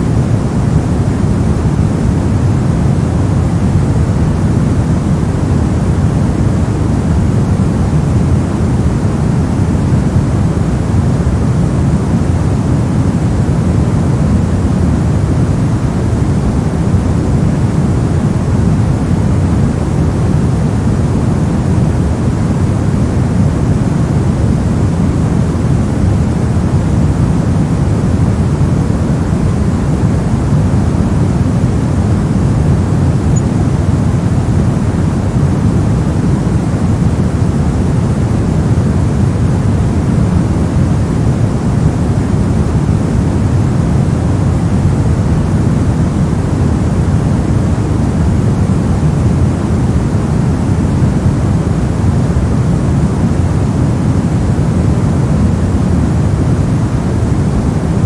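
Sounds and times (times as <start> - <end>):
deep white noise rush: 0.0 - 58.0.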